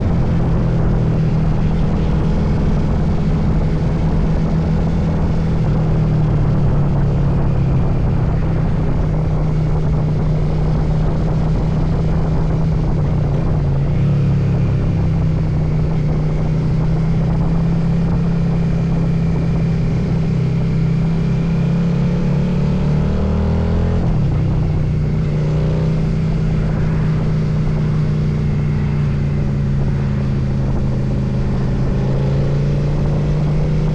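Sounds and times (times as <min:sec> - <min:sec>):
motorcycle engine running: 0:00.0 - 0:33.9
wind rushing over microphone: 0:00.0 - 0:33.9.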